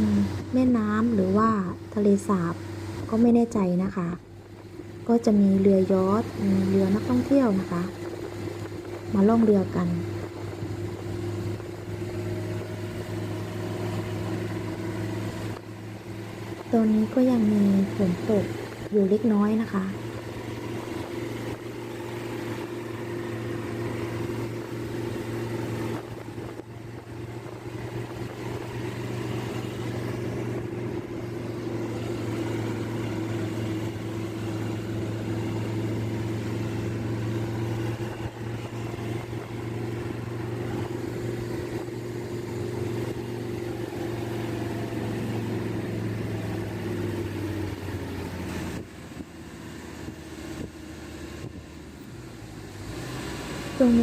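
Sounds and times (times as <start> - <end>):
car engine drone: 0.0 - 54.0
road noise: 0.0 - 54.0.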